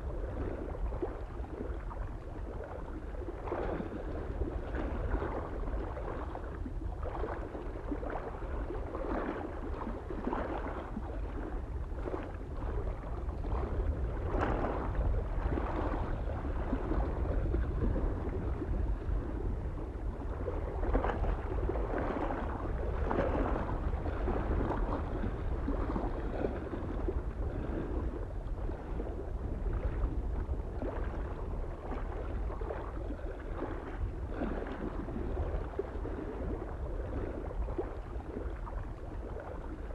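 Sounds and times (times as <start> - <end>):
small waves lapping on shore: 0.0 - 39.9
soft wind rumble: 0.0 - 39.9.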